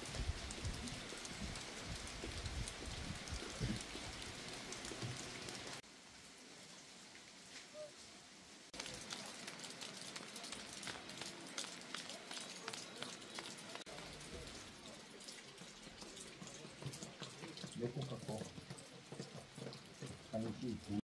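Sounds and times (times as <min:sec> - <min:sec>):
light rain pattering: 0:00.0 - 0:21.0.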